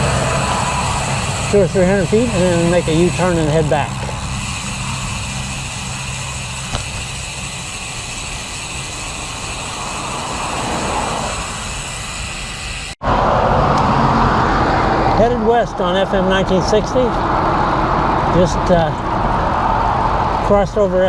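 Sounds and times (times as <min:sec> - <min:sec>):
vehicle passing: 0:00.0 - 0:07.6, 0:08.6 - 0:21.0
traffic hum and road noise: 0:00.0 - 0:21.0.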